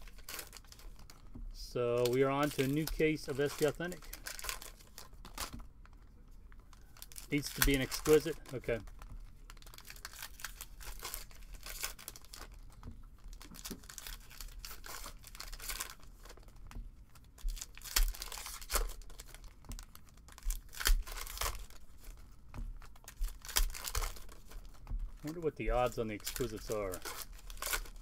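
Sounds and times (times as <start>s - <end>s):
foil wrapper tearing and crinkling: 0.0s - 1.2s, 1.9s - 28.0s.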